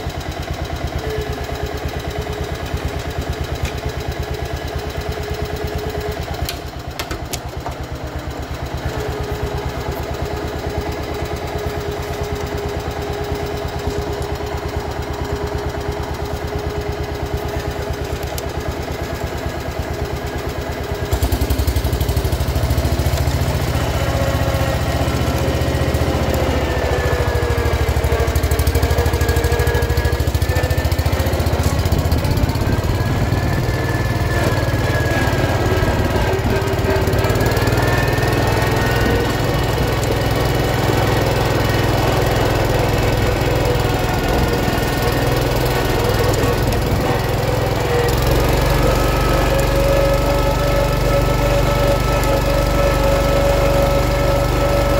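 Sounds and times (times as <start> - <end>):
garden tractor engine running: 0.0 - 54.9.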